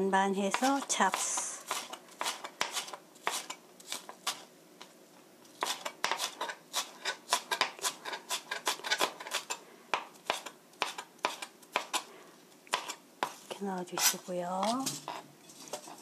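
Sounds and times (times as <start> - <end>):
knife chopping on cutting board: 0.5 - 4.4, 5.6 - 12.1, 12.7 - 16.0.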